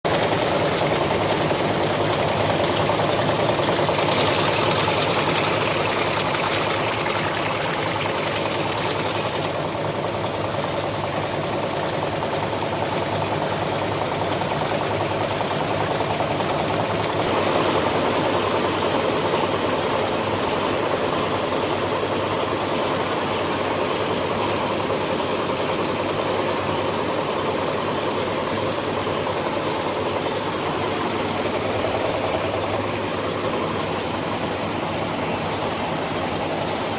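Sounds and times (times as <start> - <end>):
nail making machine clatter: 0.1 - 36.9.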